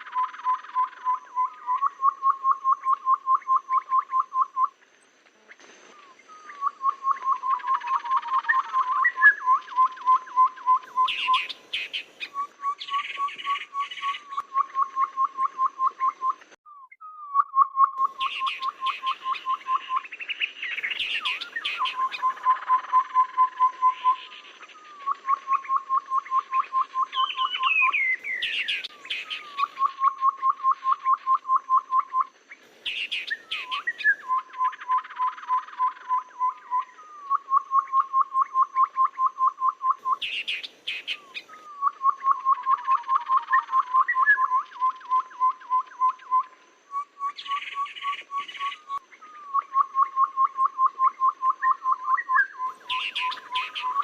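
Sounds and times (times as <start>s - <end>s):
bird calls: 0.0s - 54.0s.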